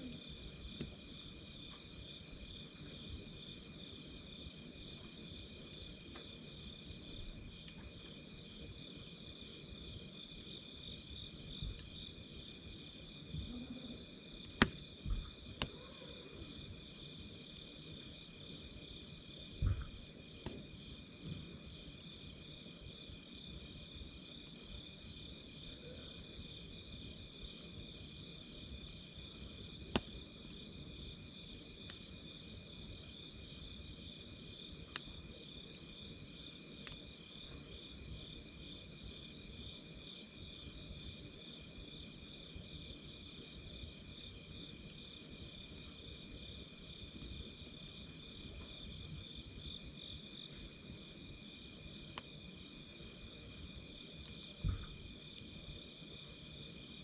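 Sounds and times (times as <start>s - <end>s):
insects chirping: 0.0s - 57.0s
wood fire crackles: 0.0s - 57.0s.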